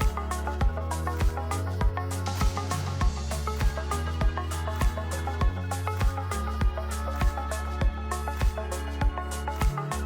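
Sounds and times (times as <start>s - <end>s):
kick drum beat: 0.0s - 9.8s
sustained bass line: 0.0s - 10.0s.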